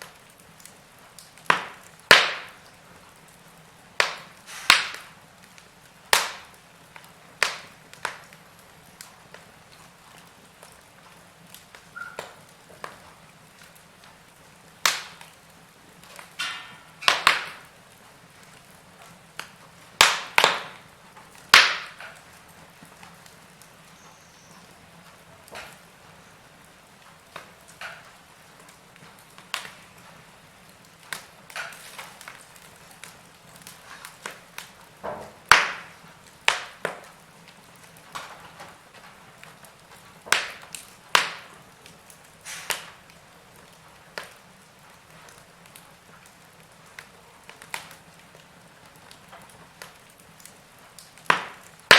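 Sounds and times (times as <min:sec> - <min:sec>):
fire crackling and popping: 0:00.0 - 0:51.9
soft steady hiss: 0:00.0 - 0:51.9.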